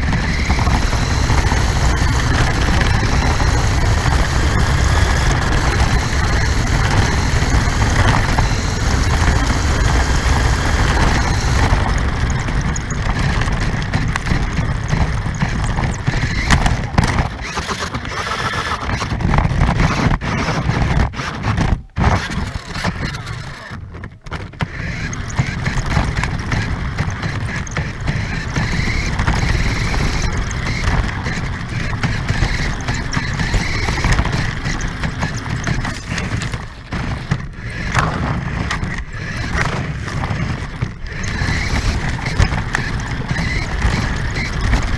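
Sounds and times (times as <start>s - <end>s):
rc car motor and wheels rumbling: 0.0s - 44.9s.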